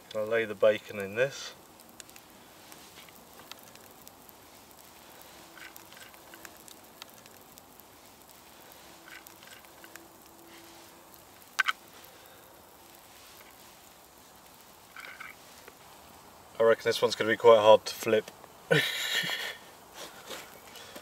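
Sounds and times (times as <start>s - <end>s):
campfire embers crackling: 0.0s - 21.0s.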